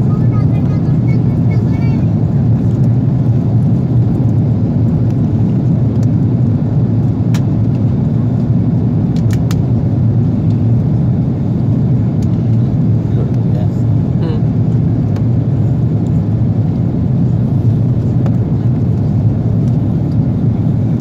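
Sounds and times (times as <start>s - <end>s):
airliner cabin roar: 0.0s - 21.0s.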